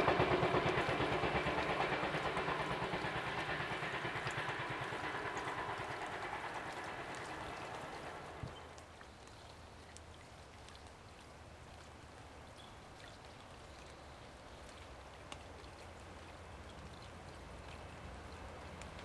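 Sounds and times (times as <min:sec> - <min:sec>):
distant train rumble: 0:00.0 - 0:10.5, 0:13.6 - 0:19.0
drips ticking: 0:00.0 - 0:19.0.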